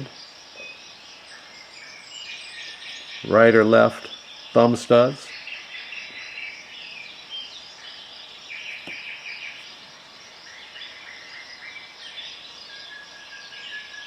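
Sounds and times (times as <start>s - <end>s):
insects chirping in trills: 0.0s - 14.0s.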